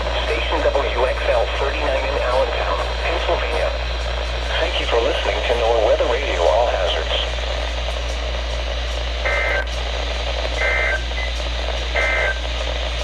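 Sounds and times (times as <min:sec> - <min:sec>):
low hum: 0:00.0 - 0:13.0
radio hiss: 0:00.0 - 0:13.0
buzzy data bursts: 0:02.5 - 0:13.0.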